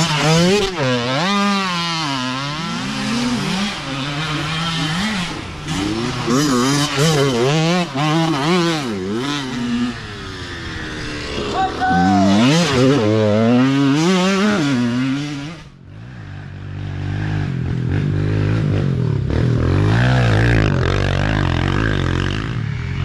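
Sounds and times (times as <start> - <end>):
dirt bikes revving past: 0.0 - 23.0.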